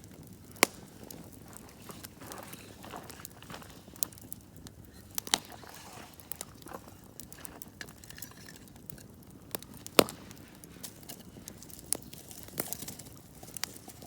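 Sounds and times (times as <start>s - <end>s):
campfire crackling: 0.0s - 14.0s
fire pops and snaps: 0.0s - 14.0s.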